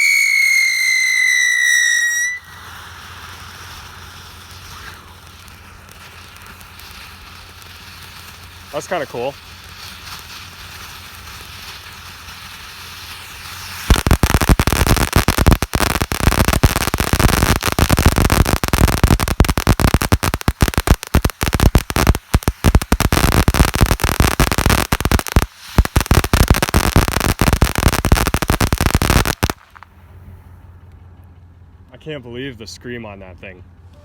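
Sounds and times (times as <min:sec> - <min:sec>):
firecrackers banging: 0:00.0 - 0:30.9.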